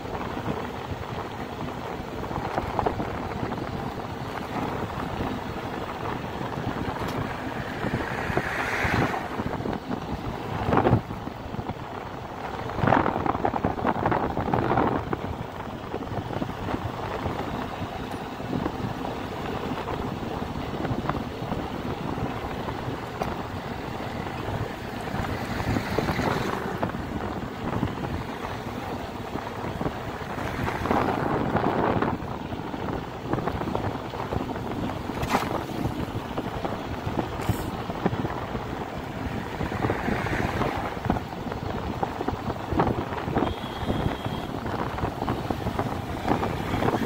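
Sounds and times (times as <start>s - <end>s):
wind rushing over microphone: 0.0s - 47.0s.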